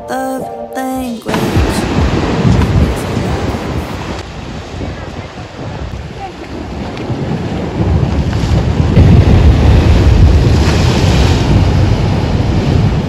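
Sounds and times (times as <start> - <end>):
ocean waves breaking on rocks: 1.3 - 13.0
wind buffeting microphone: 1.4 - 13.0.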